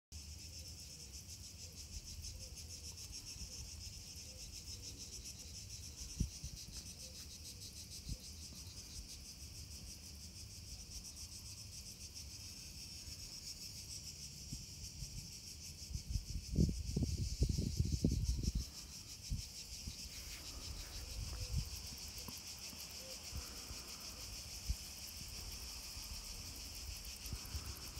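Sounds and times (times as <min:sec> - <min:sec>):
insects chirring: 0:00.2 - 0:27.9.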